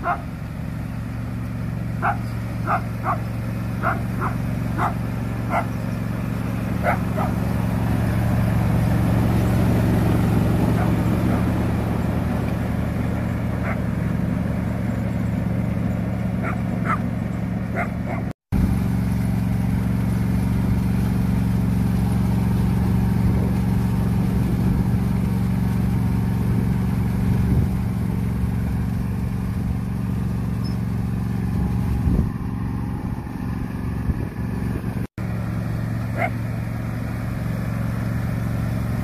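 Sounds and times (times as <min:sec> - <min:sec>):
riding lawn mower engine: 0:00.0 - 0:39.0.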